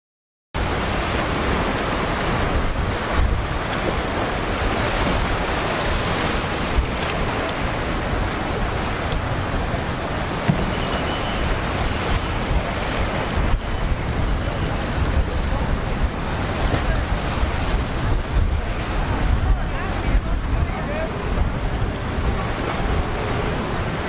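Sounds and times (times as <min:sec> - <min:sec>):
breaking waves rushing: 0:00.6 - 0:24.0
wind buffeting microphone: 0:00.6 - 0:24.0.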